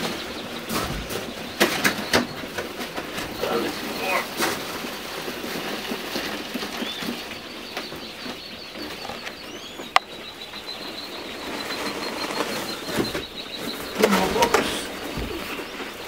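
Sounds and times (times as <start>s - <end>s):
chicks peeping: 0.0s - 16.0s
chicks scratching in wood shavings: 0.0s - 16.0s.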